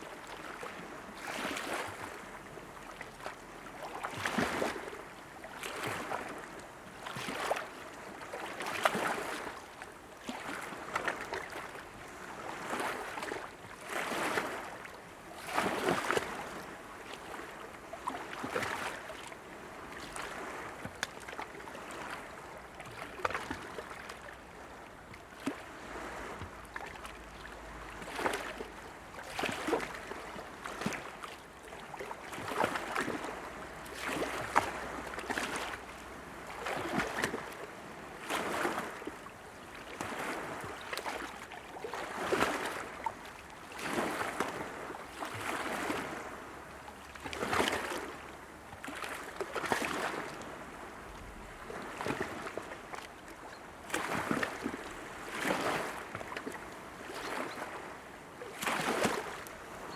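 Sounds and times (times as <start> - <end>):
small waves lapping and splashing: 0.0 - 59.9.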